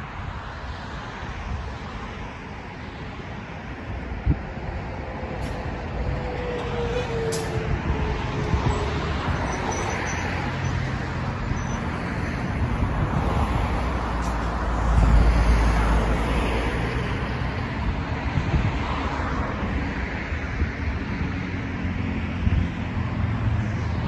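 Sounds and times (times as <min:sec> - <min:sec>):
cars driving past: 0:00.2 - 0:24.0
vehicle low rumble: 0:00.7 - 0:24.0.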